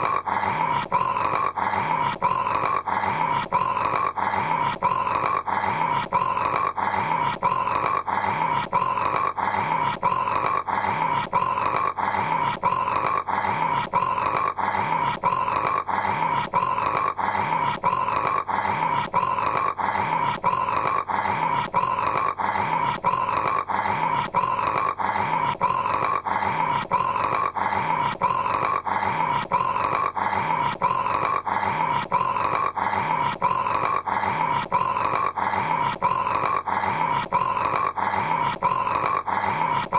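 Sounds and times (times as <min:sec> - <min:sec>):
man snoring: 0:00.0 - 0:39.9.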